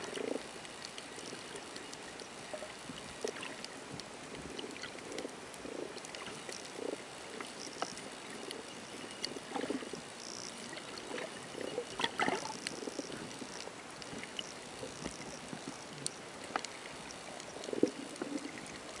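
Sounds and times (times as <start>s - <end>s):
muffled water noise: 0.0s - 19.0s
underwater clicks and ticks: 0.0s - 19.0s.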